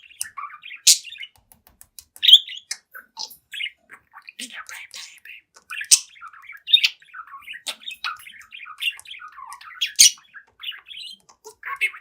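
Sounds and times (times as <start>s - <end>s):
budgerigar chirping and warbling: 0.0s - 1.3s, 2.2s - 12.0s.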